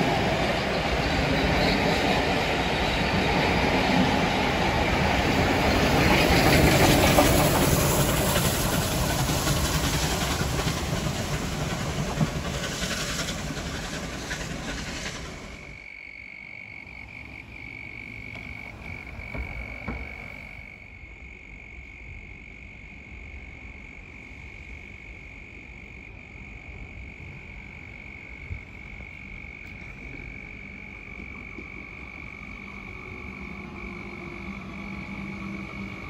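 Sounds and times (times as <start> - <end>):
electric train humming: 0.0 - 15.9, 16.8 - 21.0, 26.9 - 36.0.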